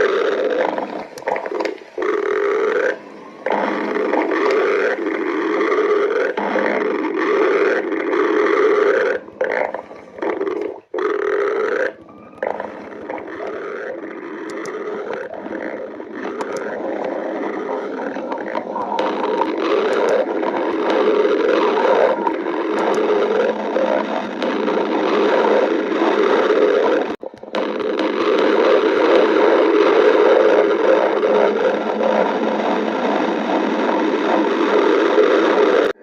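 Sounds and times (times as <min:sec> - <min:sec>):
stomach growling: 0:00.0 - 0:36.0.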